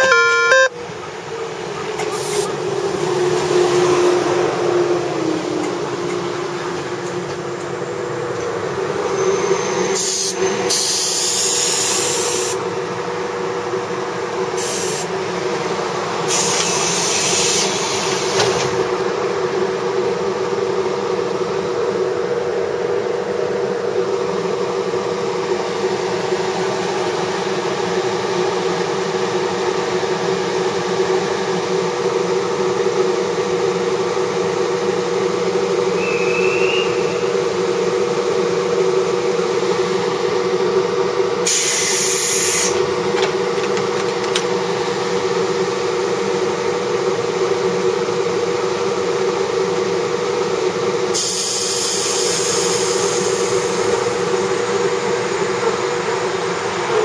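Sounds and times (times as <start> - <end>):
electric train equipment humming: 0.0 - 9.2, 11.2 - 57.0.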